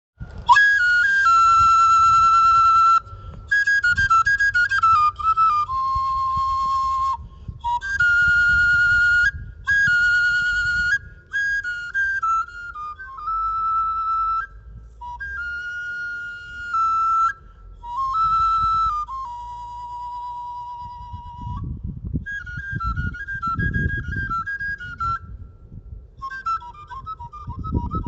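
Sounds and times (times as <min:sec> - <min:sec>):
wooden flute melody: 0:00.2 - 0:28.0.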